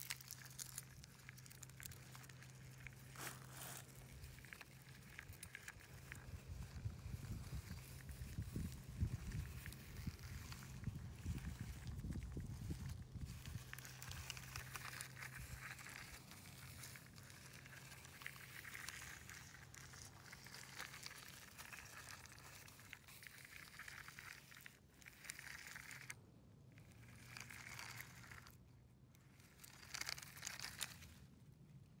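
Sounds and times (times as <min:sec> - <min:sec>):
toy car wheels crunching sand: 0:00.0 - 0:31.3.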